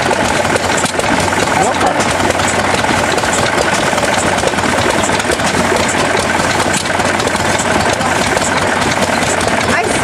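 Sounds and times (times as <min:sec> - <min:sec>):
stationary gas engines clattering: 0:00.0 - 0:10.0.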